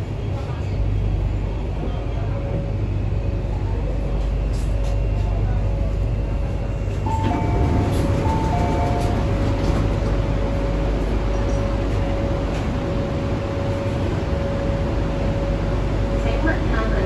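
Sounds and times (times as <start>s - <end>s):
train equipment hum with whine: 0.0s - 17.0s.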